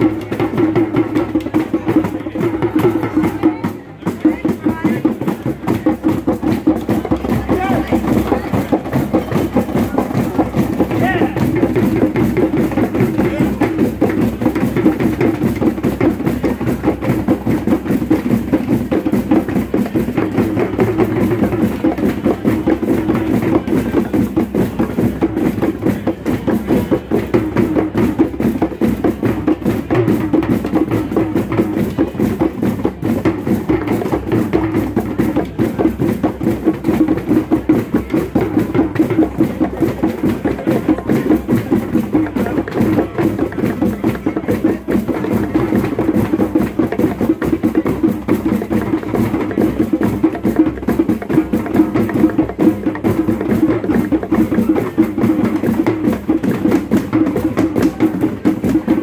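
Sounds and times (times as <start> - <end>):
drum circle playing: 0.0 - 59.0.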